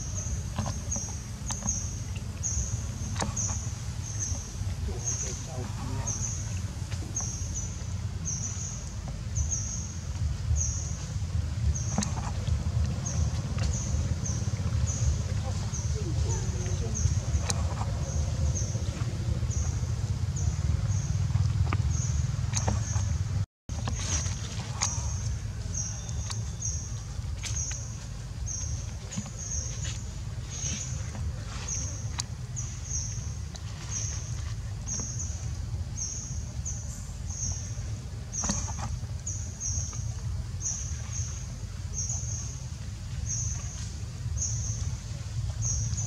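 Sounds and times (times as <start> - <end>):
low steady rumble: 0.0 - 46.0
monkeys eating fruit clicks: 0.0 - 46.0.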